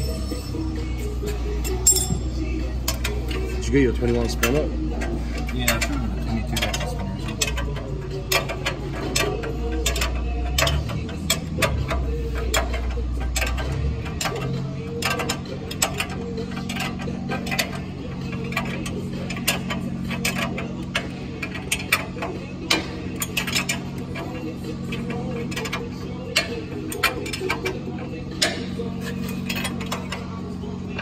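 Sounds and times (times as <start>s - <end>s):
ratchet spanner clicking: 1.0s - 31.0s.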